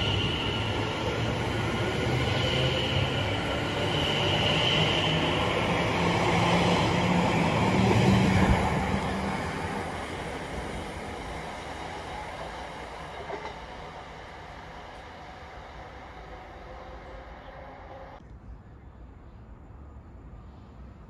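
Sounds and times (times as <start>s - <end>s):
train passing: 0.0s - 18.2s.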